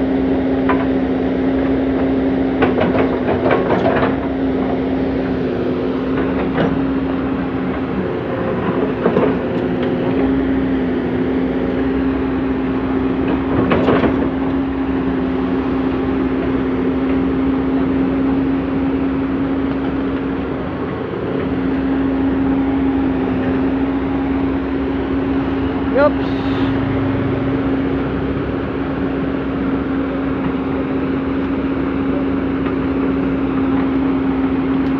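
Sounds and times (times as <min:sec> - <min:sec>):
excavator diesel engine droning: 0:00.0 - 0:34.9.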